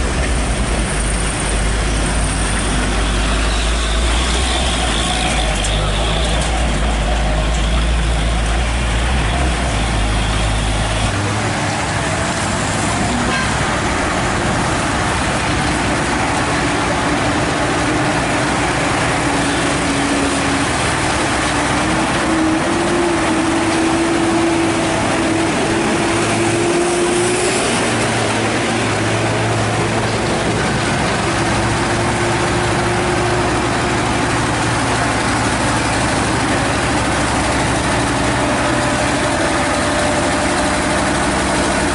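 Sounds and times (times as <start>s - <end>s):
road noise: 0.0s - 41.9s
truck engine running: 0.0s - 41.9s.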